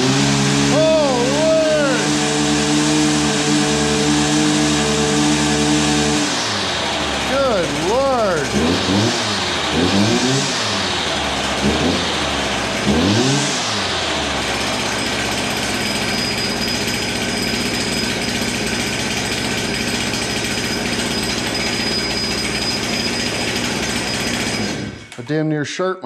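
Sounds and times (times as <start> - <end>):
turbo whine: 0.0 - 25.1
truck engine revving: 0.0 - 25.2.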